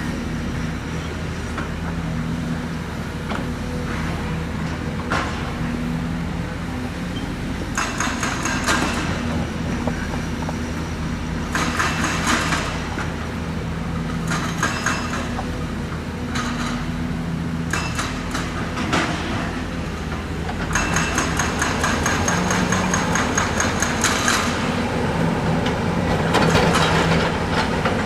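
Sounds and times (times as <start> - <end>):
diesel excavator engine running: 0.0 - 28.0.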